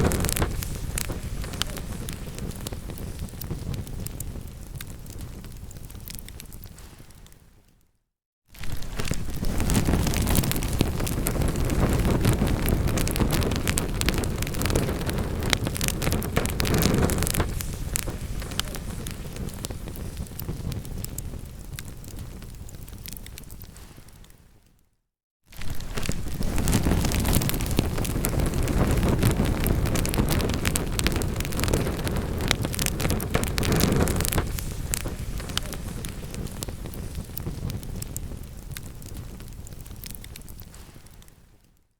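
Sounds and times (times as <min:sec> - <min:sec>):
low rushing flame rumble: 0:00.0 - 0:06.6, 0:08.6 - 0:23.7, 0:25.6 - 0:41.2
wood fire crackling and popping: 0:00.0 - 0:07.8, 0:08.6 - 0:24.8, 0:25.5 - 0:41.8.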